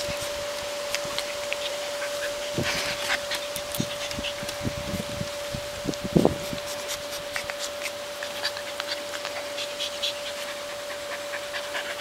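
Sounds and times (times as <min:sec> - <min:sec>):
puppy scratching and clicking: 0:00.0 - 0:05.0, 0:05.9 - 0:12.0
faint steady hum: 0:00.0 - 0:12.0.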